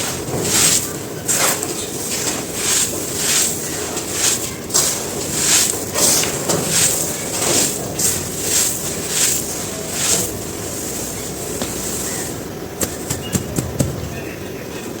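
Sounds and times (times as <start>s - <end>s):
cement chunks crunching: 0.0s - 14.0s.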